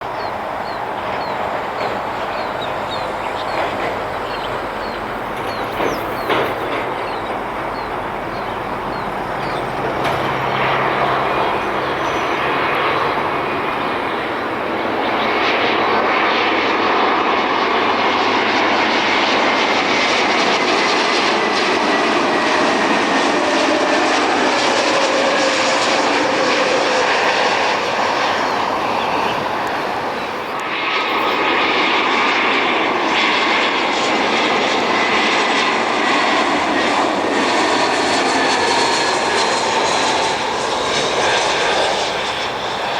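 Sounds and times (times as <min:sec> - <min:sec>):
jet engines rushing and whining: 0:00.0 - 0:42.9.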